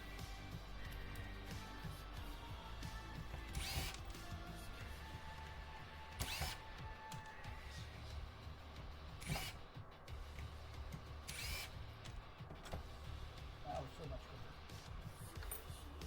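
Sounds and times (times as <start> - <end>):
cordless drill whirring: 0.0 - 13.2.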